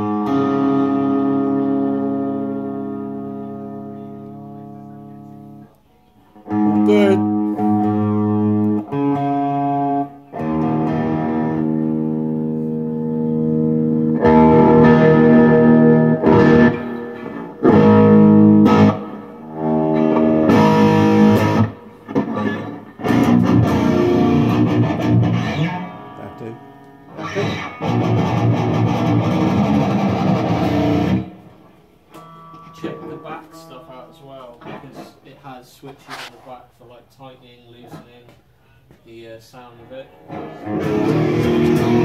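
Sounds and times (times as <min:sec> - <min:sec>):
electric guitar chords: 0:00.0 - 0:34.9, 0:40.1 - 0:42.0.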